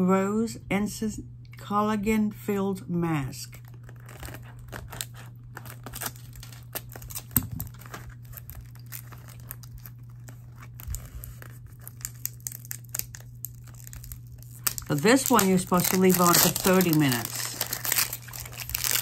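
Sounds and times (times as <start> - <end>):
sachet crinkling and tearing: 3.5 - 19.0.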